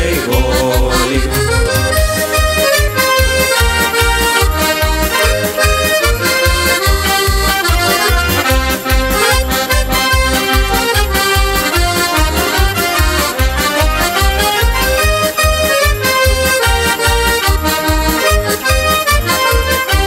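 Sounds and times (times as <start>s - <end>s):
accordion playing held notes: 0.0s - 20.0s
bass beat: 0.0s - 20.0s.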